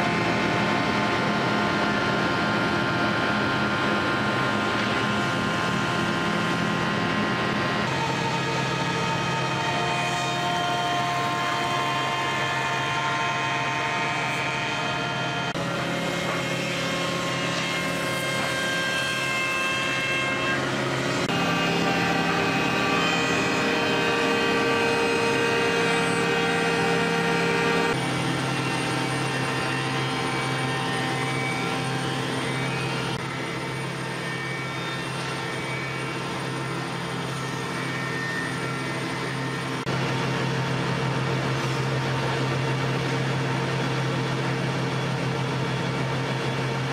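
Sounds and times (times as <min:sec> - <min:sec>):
woodworking machinery humming: 0:00.0 - 0:46.9.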